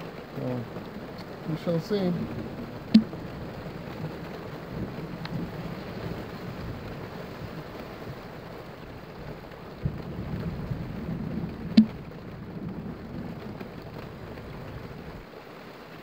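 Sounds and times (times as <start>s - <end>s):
thunder rumbling: 0.0s - 15.3s
rain hissing: 0.0s - 16.0s.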